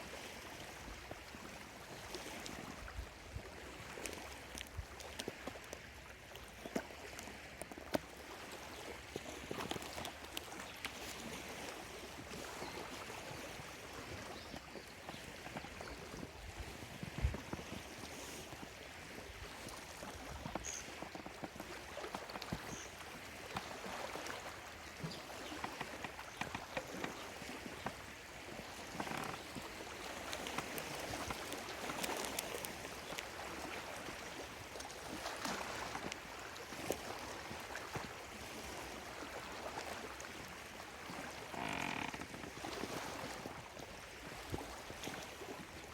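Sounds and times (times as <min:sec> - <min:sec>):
lake waves lapping on shore: 0:00.0 - 0:45.9.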